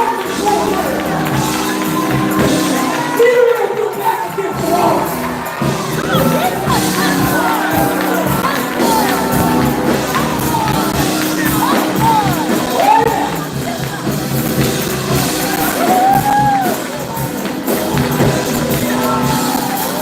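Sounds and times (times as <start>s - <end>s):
live band playing: 0.0s - 20.0s
voices singing and shouting: 0.0s - 20.0s.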